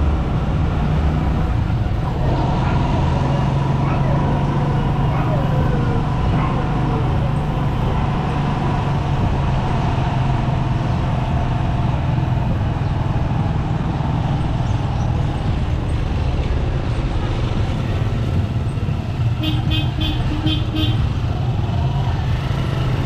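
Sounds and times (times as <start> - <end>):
road and traffic noise: 0.0 - 23.0
motorcycle engine running: 1.6 - 23.0.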